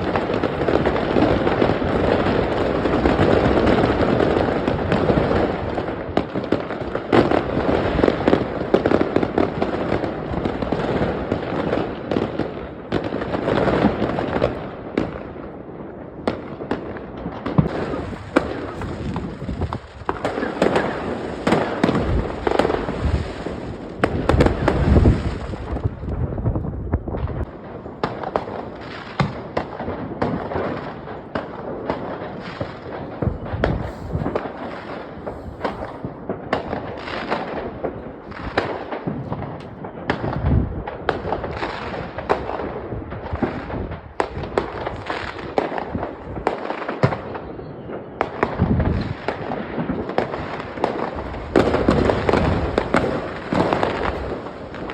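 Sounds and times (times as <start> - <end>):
low firework booms: 0.0 - 47.4, 48.2 - 54.9
fireworks crackling and banging: 0.0 - 54.9.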